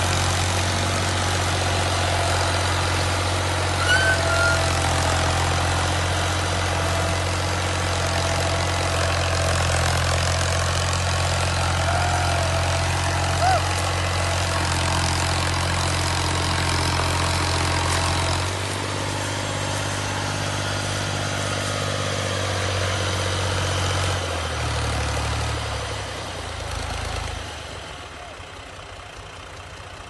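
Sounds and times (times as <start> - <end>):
heavy engine idling: 0.0 - 30.0.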